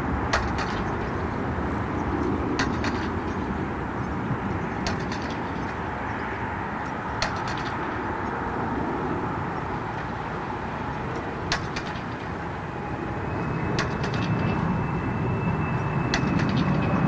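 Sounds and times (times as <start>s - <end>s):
jet engines rumbling: 0.0s - 17.0s
thin steady whine: 0.0s - 17.0s.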